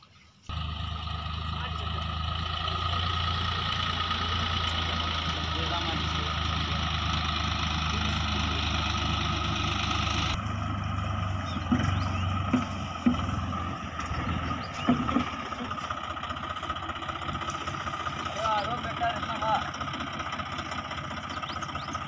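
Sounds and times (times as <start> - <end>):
tractor diesel engine running: 0.5 - 22.0.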